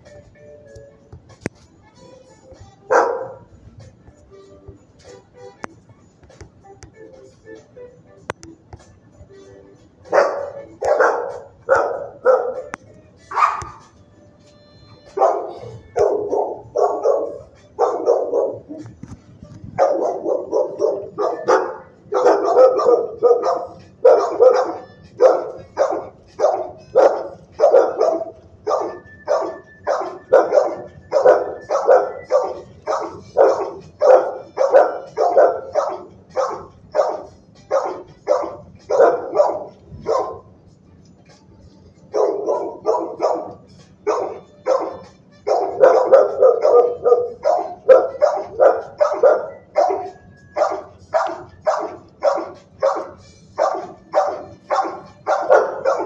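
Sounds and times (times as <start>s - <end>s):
dogs barking: 2.5s - 4.4s, 10.0s - 14.0s, 15.0s - 41.1s, 42.0s - 56.0s.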